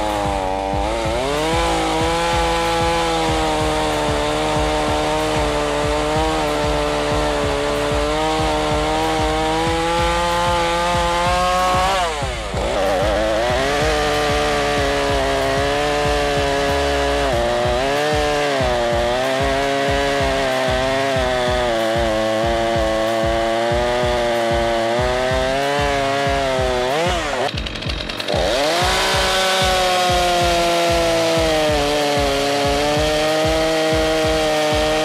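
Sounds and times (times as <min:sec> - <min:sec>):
chainsaw cutting log: 0:00.0 - 0:35.0
second chainsaw at high revs: 0:00.0 - 0:35.0.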